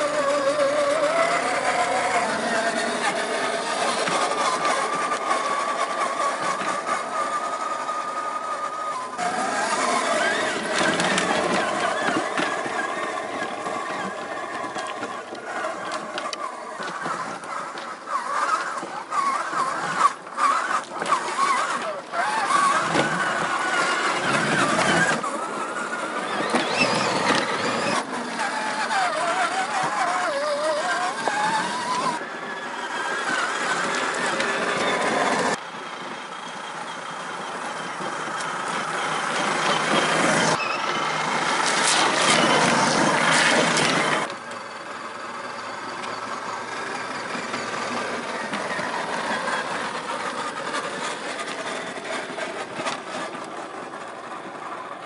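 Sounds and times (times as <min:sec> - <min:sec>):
electric motor whining: 0:00.0 - 0:55.0.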